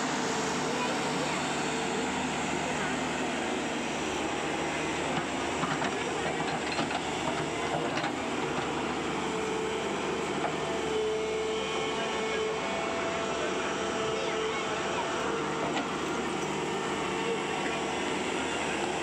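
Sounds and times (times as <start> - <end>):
engine whine: 0.0 - 19.0
excavator diesel engine running: 0.0 - 19.0.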